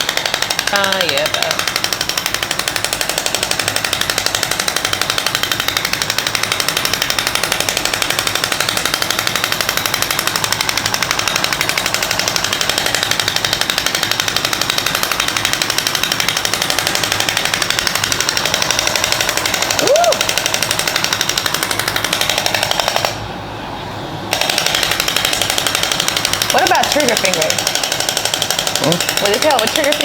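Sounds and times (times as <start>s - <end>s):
fast rattle of clicks: 0.0s - 23.2s, 24.3s - 30.0s.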